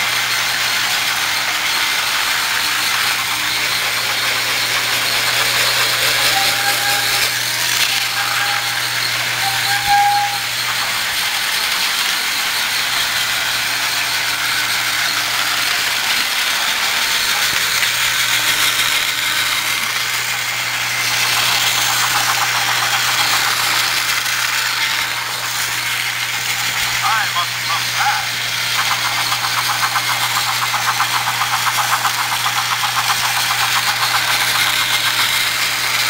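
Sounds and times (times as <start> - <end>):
toy train motor running: 0.0 - 36.0.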